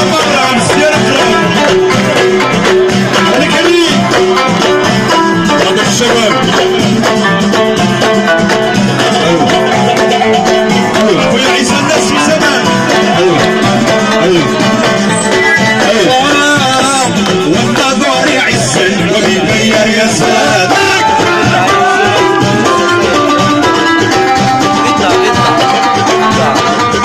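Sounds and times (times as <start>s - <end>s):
live band music: 0.0s - 27.0s.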